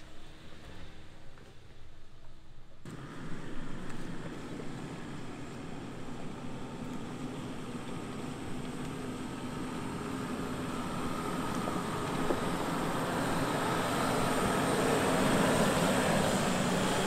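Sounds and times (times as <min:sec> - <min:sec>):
diesel engine at low revs: 0:02.9 - 0:17.0.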